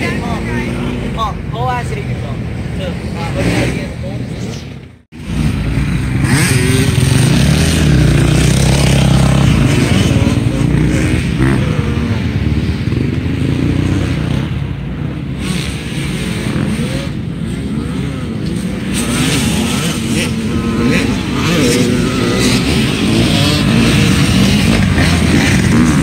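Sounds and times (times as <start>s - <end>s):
dirt bike engine revving: 2.4s - 26.0s.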